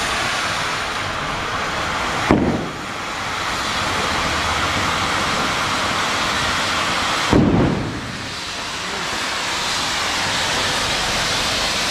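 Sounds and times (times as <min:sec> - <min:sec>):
firecracker bang: 0:00.0 - 0:11.9
fireworks hissing spray: 0:00.0 - 0:11.9.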